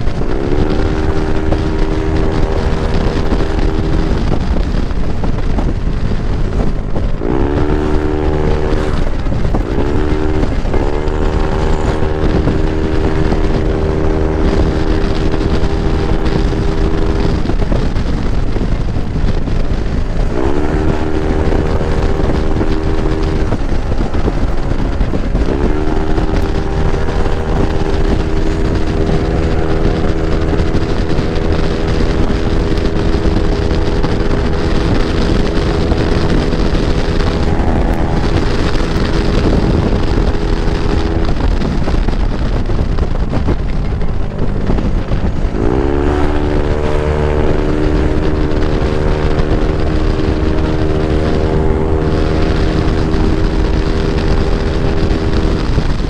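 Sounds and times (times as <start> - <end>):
scooter engine running: 0.0 - 56.0
wind on microphone: 0.0 - 56.0.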